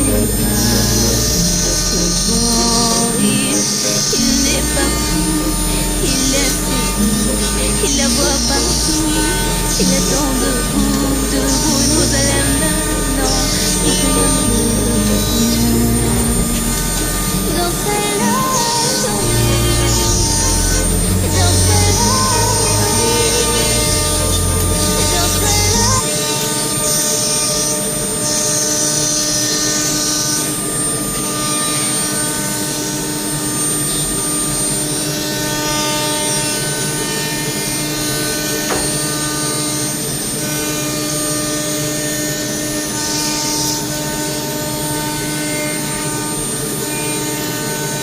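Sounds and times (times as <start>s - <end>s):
cnc cutting machine whining: 0.0s - 48.0s.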